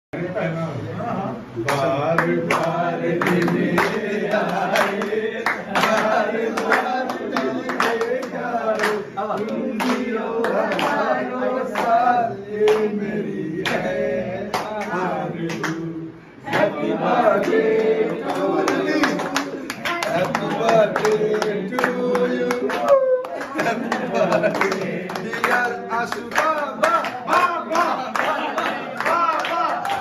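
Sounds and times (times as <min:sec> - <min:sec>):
men singing together: 0:00.2 - 0:30.0
hand claps: 0:01.7 - 0:12.0, 0:12.6 - 0:13.0, 0:13.6 - 0:13.9, 0:14.5 - 0:15.8, 0:18.2 - 0:30.0.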